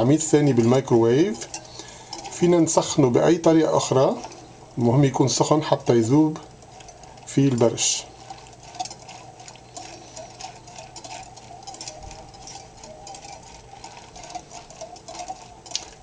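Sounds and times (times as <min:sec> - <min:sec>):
whisk clicking against glass: 0:00.0 - 0:04.4, 0:06.6 - 0:16.0.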